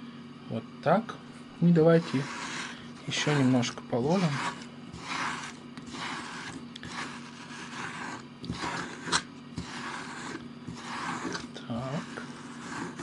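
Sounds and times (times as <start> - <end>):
ice cream scoop scraping: 1.6 - 13.0.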